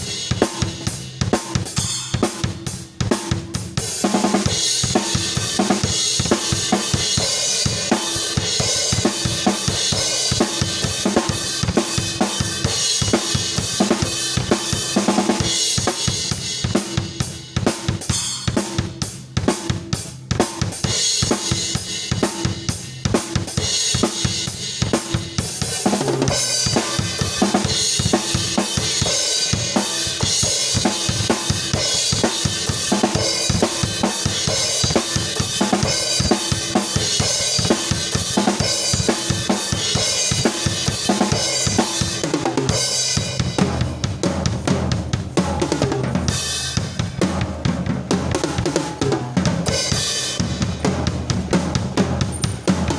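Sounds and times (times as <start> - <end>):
drum kit playing a beat: 0.0 - 52.9.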